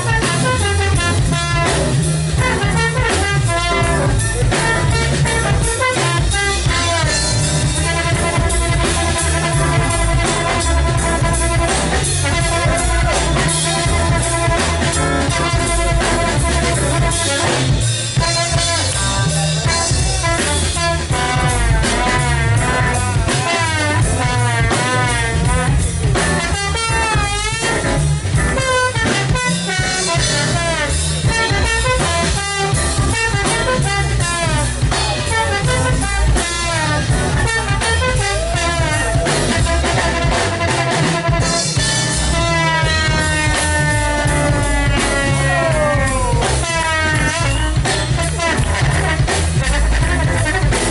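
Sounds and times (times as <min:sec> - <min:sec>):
drum kit: 0:00.0 - 0:50.9
keyboard: 0:00.0 - 0:50.9
trombone: 0:00.0 - 0:50.9.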